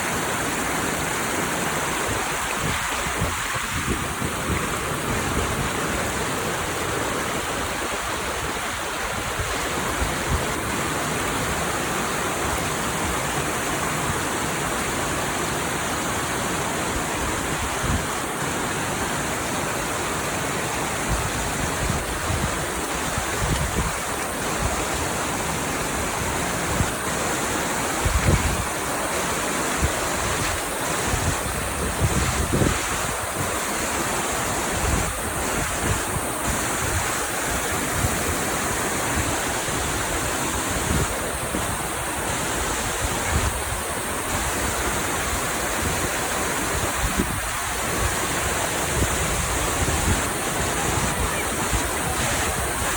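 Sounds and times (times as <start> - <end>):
waterfall roaring: 0.0 - 52.9.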